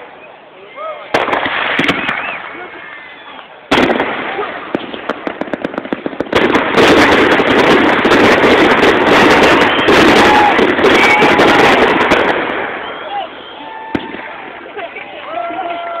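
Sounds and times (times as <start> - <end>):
fireworks bangs and crackle: 1.0 - 16.0.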